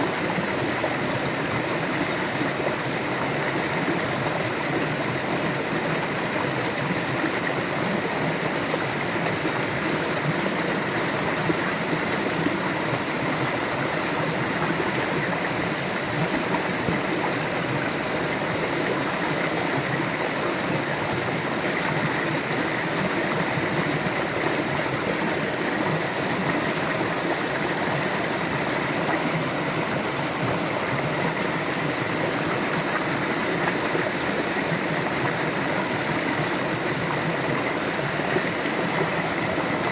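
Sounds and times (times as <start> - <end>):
river water gurgling over stones: 0.0 - 39.9.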